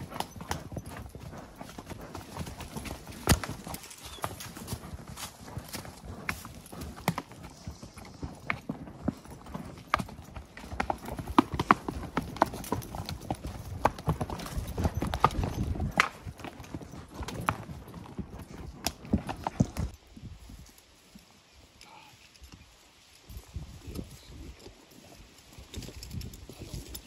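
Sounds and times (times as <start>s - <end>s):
horse hooves on dirt trail: 0.0s - 27.0s.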